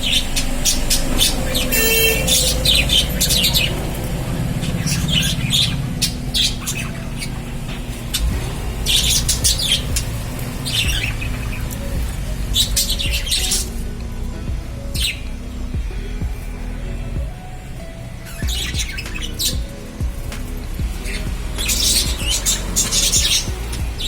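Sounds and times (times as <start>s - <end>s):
lovebirds chirping and squawking: 0.0s - 24.0s
low rumble: 0.0s - 24.0s.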